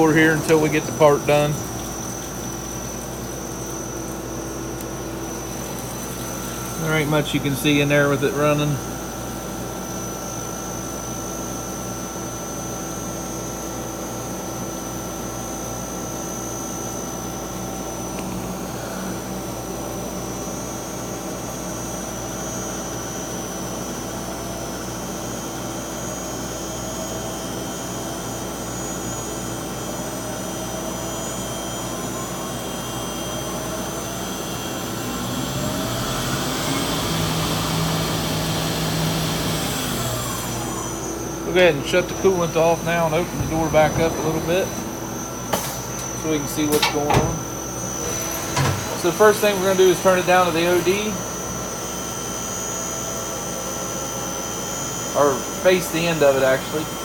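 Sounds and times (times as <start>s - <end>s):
lathe running with high whine: 0.0s - 57.0s.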